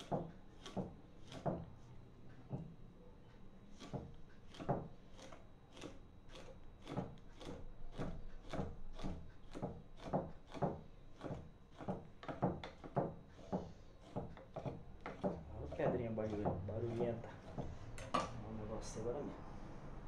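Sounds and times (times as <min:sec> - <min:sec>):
knife scoring fish on wooden block: 0:00.0 - 0:01.9, 0:03.7 - 0:18.4.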